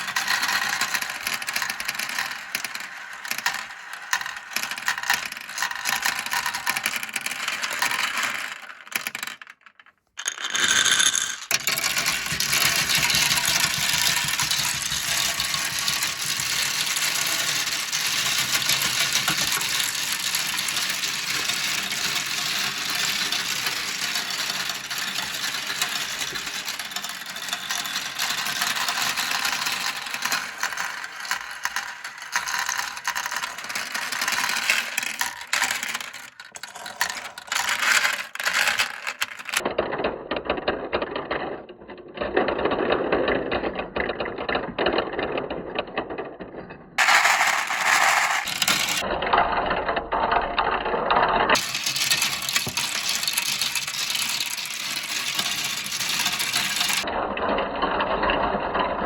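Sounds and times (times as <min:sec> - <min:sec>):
glass marbles rattling down plastic track: 0:00.0 - 0:49.1, 0:51.5 - 0:58.9.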